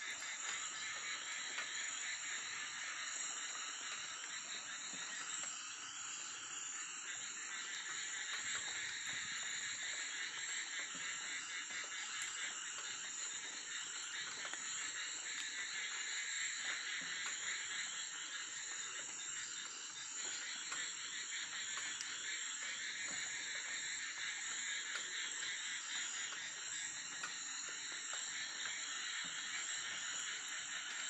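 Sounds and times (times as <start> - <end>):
frogs trilling: 0.0 - 31.0
insects droning: 0.0 - 31.0.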